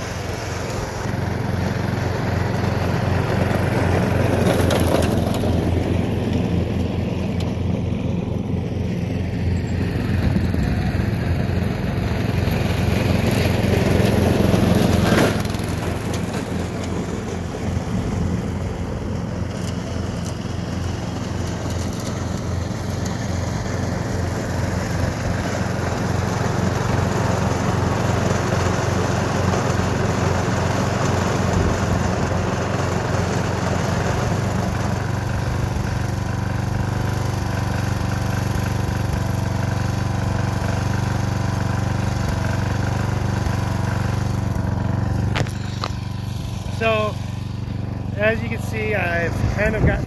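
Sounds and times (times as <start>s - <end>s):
lawn mower engine running: 0.0s - 50.0s.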